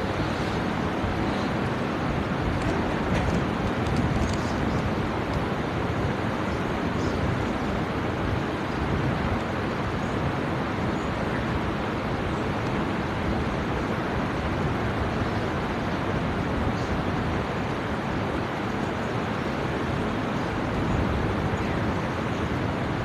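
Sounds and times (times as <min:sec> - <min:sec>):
rushing room noise with low rumble: 0:00.0 - 0:23.0.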